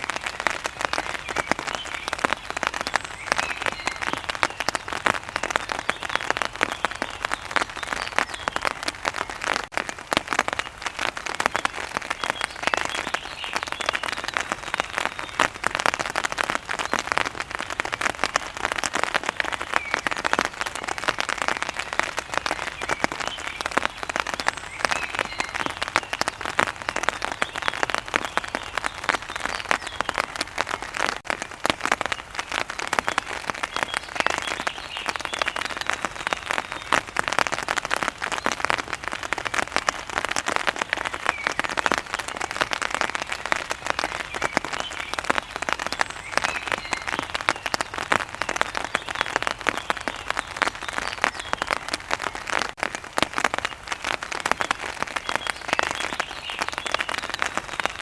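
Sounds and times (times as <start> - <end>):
heavy rain on hard surface: 0.0 - 58.0.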